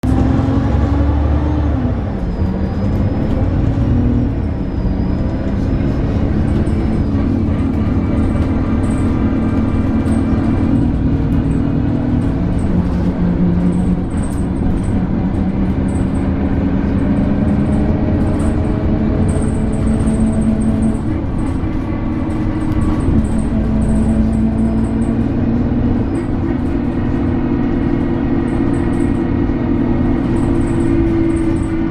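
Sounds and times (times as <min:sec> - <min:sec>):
bus engine drone: 0:00.0 - 0:31.9.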